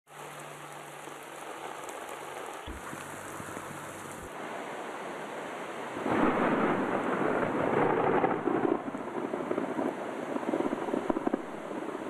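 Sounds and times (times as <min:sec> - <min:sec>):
heavy rain on a street: 0:00.1 - 0:12.0.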